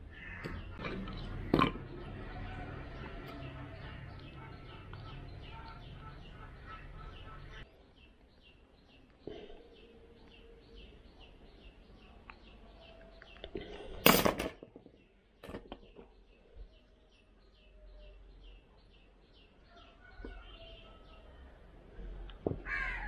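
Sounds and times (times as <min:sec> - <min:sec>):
bird chirping: 0:00.0 - 0:14.0, 0:14.8 - 0:23.0.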